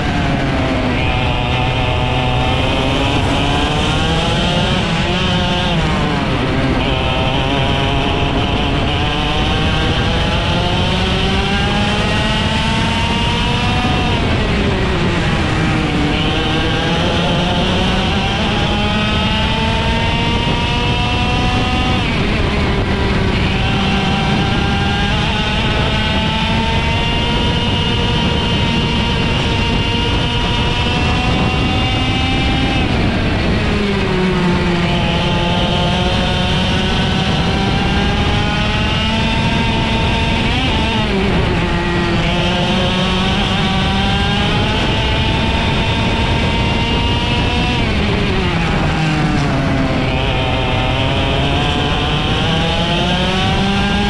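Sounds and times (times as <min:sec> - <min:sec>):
kart engine accelerating: 0:00.0 - 0:54.0.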